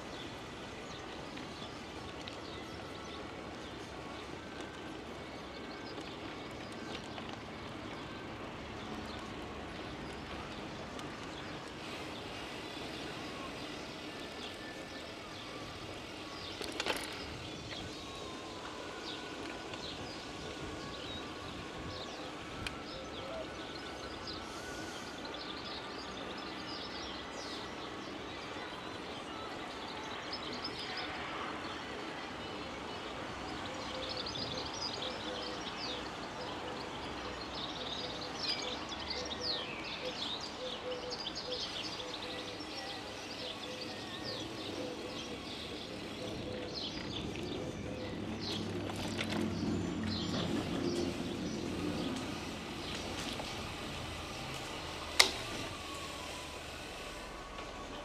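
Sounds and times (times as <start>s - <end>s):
outdoor noise: 0.0s - 58.0s.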